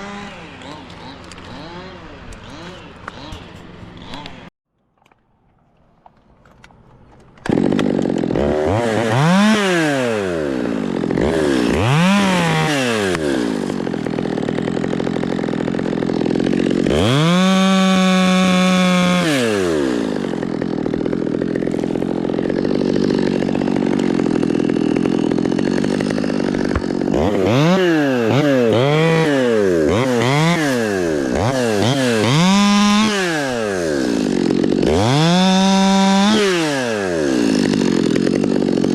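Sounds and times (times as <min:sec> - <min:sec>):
two-stroke chainsaw revving: 0:00.0 - 0:04.5, 0:07.4 - 0:38.9.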